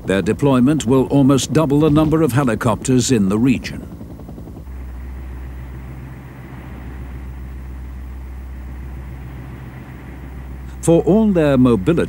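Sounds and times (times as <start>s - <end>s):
heavy machinery engine droning: 0.0s - 12.0s.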